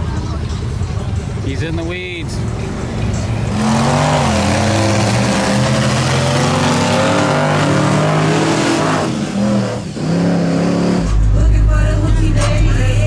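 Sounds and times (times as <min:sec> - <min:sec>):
truck engine revving: 0:00.0 - 0:11.6.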